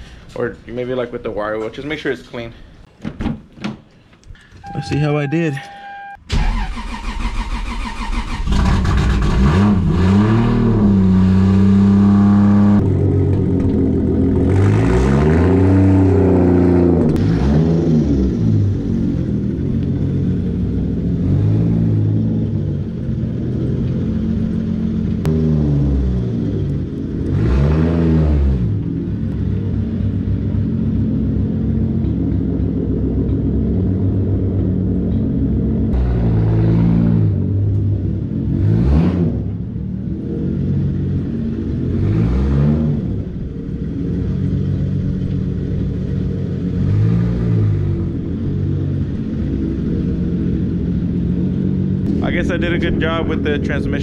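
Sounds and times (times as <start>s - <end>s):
car engine idling and revving: 4.6s - 54.0s.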